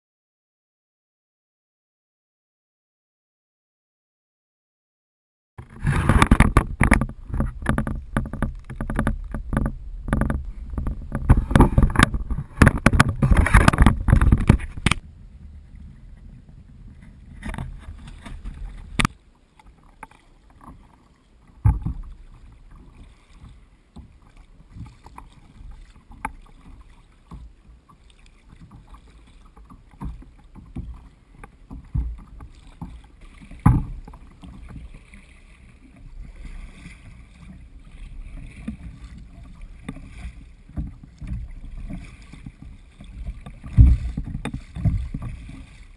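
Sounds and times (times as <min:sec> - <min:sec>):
paddle knocking: 0:05.6 - 0:45.9
water rumbling and crackling: 0:05.6 - 0:45.9.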